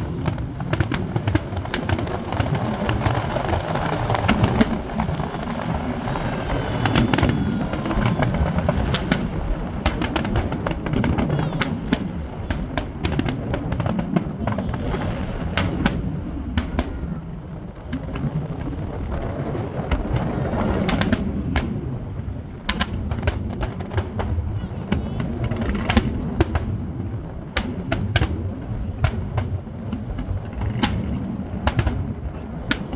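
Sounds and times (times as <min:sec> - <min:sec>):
fireworks cracking and popping: 0:00.0 - 0:32.9
low rumble of distant fireworks: 0:00.0 - 0:32.9.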